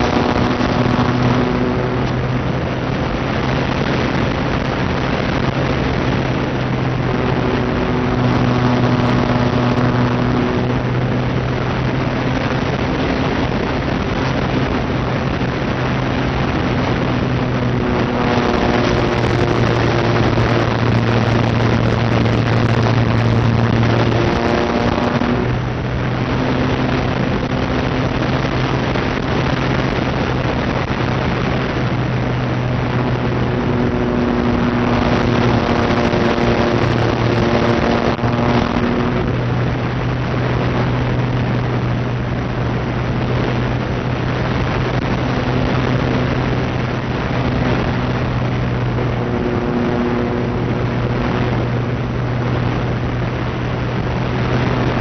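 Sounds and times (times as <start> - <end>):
electric motor and propeller buzzing: 0.0 - 55.0
rush of air: 0.0 - 55.0.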